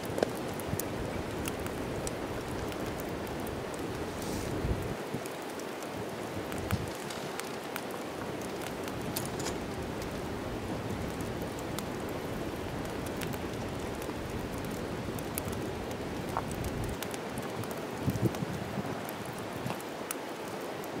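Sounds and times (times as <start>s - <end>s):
fire pops and snaps: 0.0s - 21.0s
wood fire crackling: 0.0s - 21.0s.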